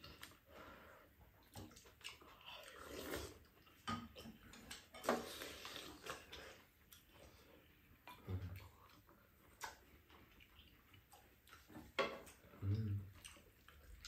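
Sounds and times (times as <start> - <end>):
people chewing: 0.0 - 14.0.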